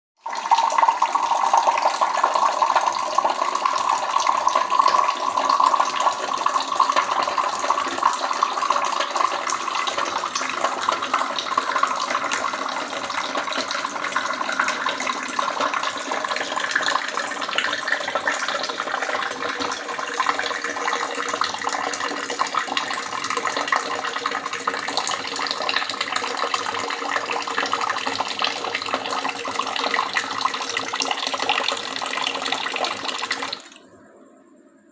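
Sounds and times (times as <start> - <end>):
water running into a sink: 0.2 - 33.8.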